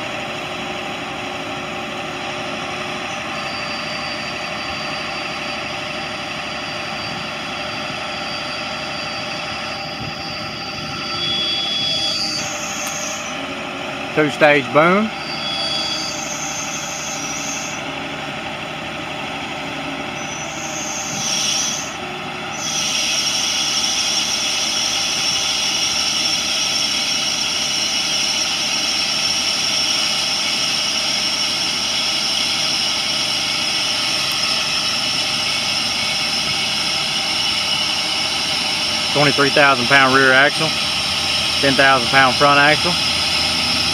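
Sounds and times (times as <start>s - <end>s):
diesel engine running: 0.0s - 43.9s
high hydraulic pump whine: 0.0s - 43.9s.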